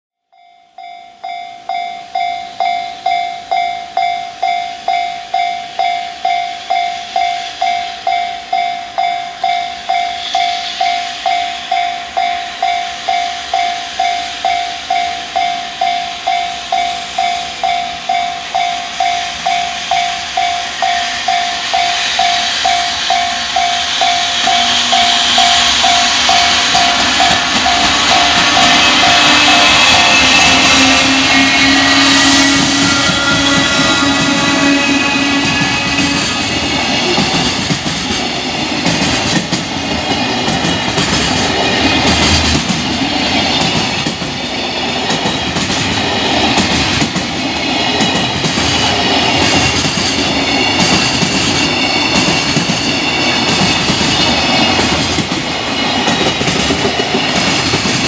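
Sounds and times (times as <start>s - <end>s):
level crossing warning bell: 0.2s - 37.4s, 46.9s - 58.0s
freight train rumble and hiss: 1.6s - 58.0s.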